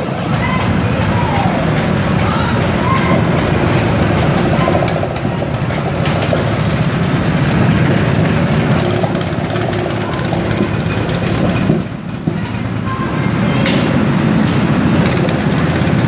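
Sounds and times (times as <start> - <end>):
go-kart engines chugging: 0.0 - 16.0.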